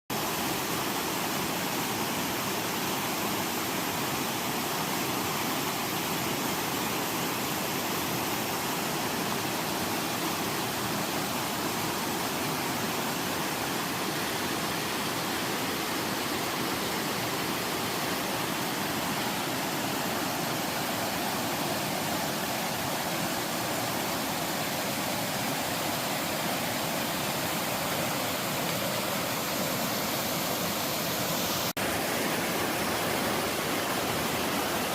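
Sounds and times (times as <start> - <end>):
waterfall rushing over rock: 0.1 - 34.9.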